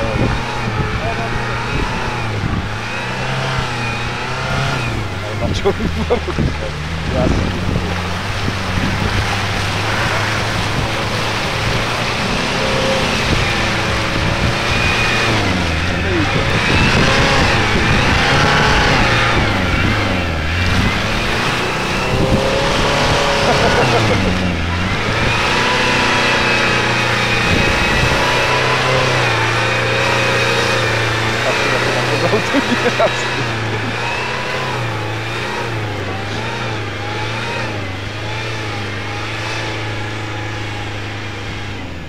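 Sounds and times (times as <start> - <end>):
engine running under load: 0.0 - 42.0.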